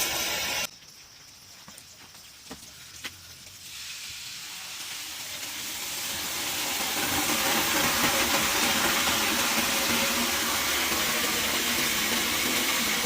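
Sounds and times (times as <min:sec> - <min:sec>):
rushing water: 0:02.2 - 0:13.0.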